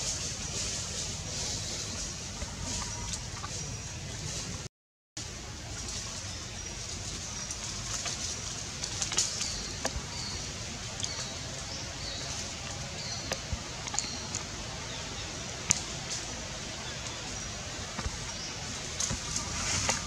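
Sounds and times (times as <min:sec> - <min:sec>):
birds chirping: 0:00.0 - 0:20.0
steady background hiss: 0:00.0 - 0:20.0.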